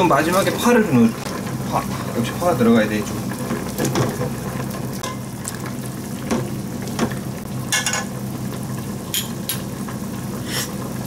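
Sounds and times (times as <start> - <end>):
liquid simmering in a pot: 0.0 - 11.0.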